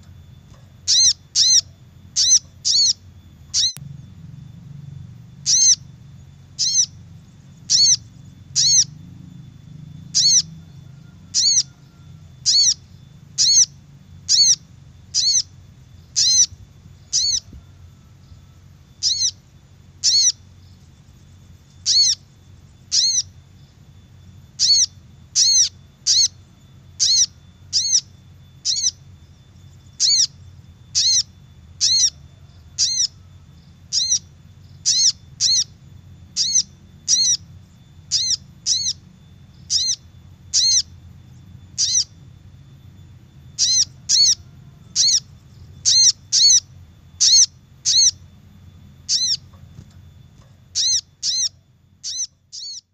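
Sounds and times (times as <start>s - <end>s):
sunbird sharp calls: 0.0s - 4.1s, 5.0s - 52.9s
steady low hum: 0.0s - 52.9s.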